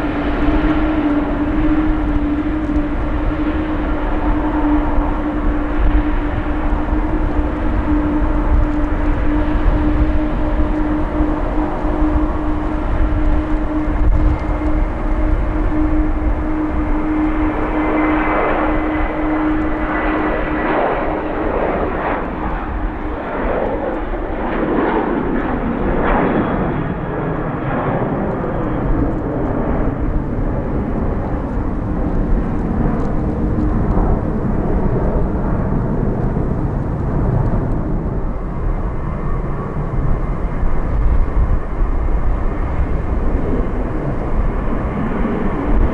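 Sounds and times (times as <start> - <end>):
jet engines passing: 0.0 - 45.9.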